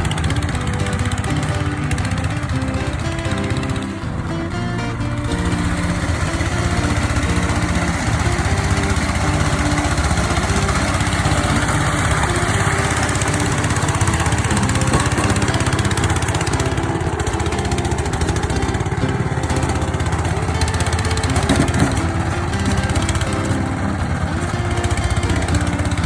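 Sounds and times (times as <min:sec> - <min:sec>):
small plough engine chugging: 0:00.0 - 0:26.0.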